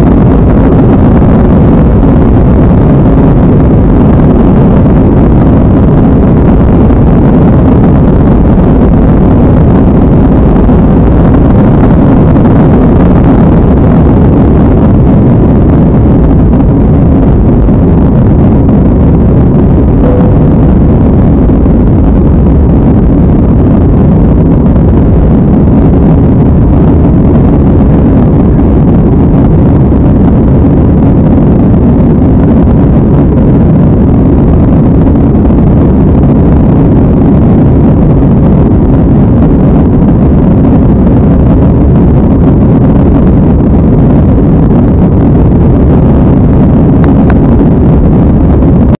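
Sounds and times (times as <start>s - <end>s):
jet engines and airflow in cabin: 0.0s - 48.9s.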